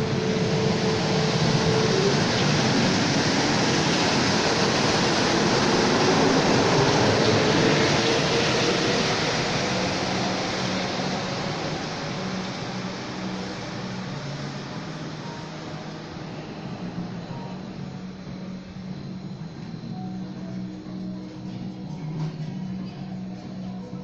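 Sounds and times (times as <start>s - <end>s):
metro train rushing past: 0.0s - 24.0s.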